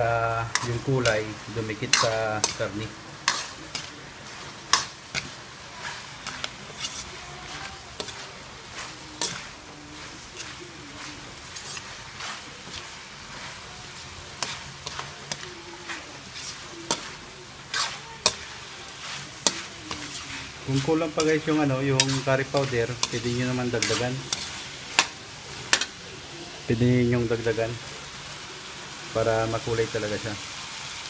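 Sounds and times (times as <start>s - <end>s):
chicken sizzling in a wok: 0.0s - 31.0s
metal ladle scraping a wok: 0.3s - 26.0s.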